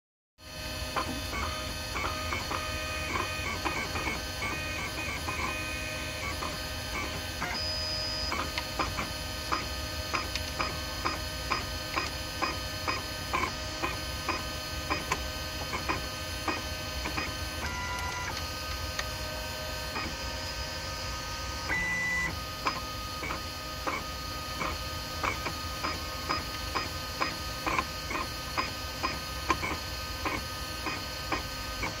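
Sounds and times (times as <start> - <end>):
steady background hum: 0.4 - 32.0
stepper motors whining: 0.6 - 32.0.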